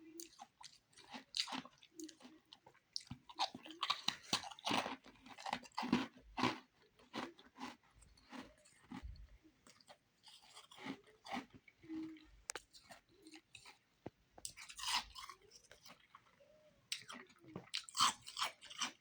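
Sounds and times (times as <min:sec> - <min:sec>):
person chewing crunchy ice: 0:00.2 - 0:13.8, 0:14.4 - 0:16.3, 0:16.9 - 0:19.0.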